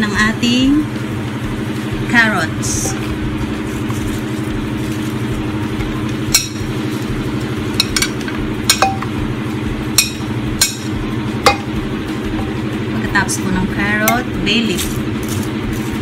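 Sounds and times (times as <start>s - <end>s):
low hum: 0.0s - 15.8s.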